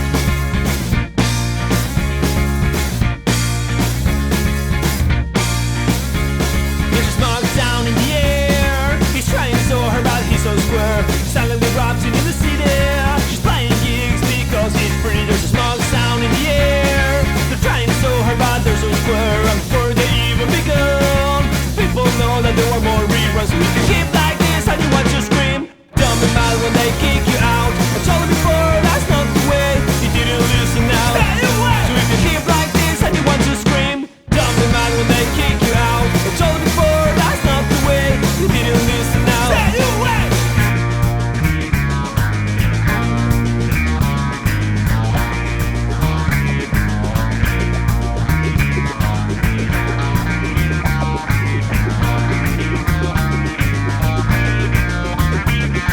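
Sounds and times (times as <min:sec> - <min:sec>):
rock band playing instrumental: 0:00.0 - 0:55.9.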